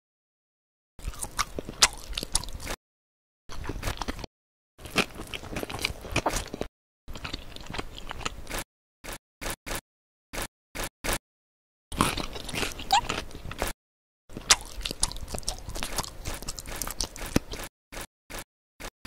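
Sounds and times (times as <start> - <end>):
crunchy chewing and biting: 1.0 - 2.8, 3.5 - 9.8, 10.4 - 11.2, 11.9 - 18.9.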